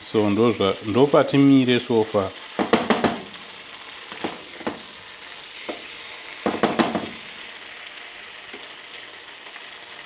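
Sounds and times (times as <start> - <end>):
chicken wings sizzling in a pan: 0.0 - 10.0.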